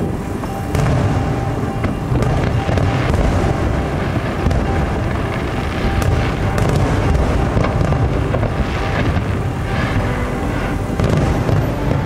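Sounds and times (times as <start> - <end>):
fireworks booming rumble: 0.0 - 12.0
fireworks crackling pops: 0.0 - 12.0.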